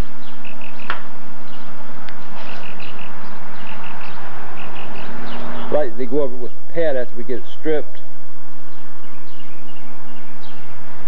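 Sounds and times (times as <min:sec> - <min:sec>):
bird chirping: 0:00.0 - 0:11.0
low constant hum: 0:00.0 - 0:11.0.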